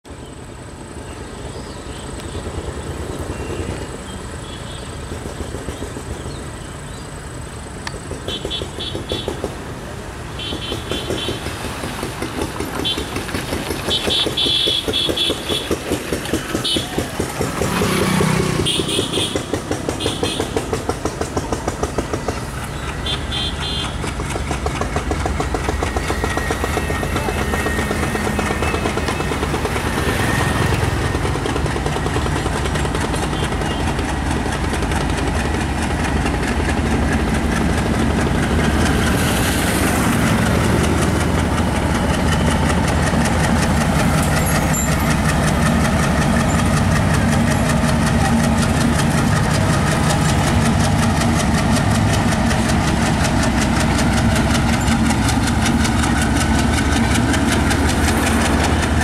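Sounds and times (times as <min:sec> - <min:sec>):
diesel locomotive engine beat: 0:00.0 - 0:59.0.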